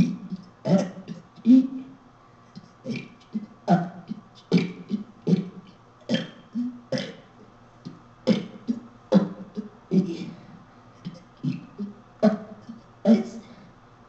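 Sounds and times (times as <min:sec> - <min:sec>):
person burping through a speaker: 0:00.0 - 0:02.0, 0:02.6 - 0:07.4, 0:08.3 - 0:13.6.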